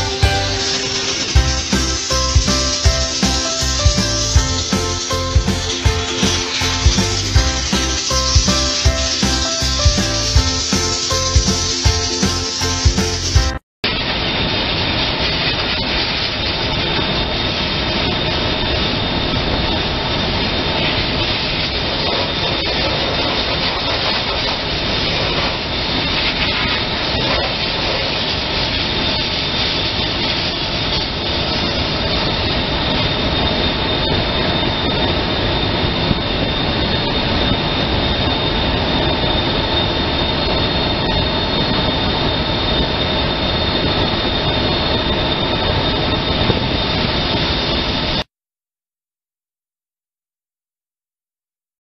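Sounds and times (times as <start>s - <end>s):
blasting nozzle hiss with whistle: 0.0s - 13.5s, 18.0s - 48.2s.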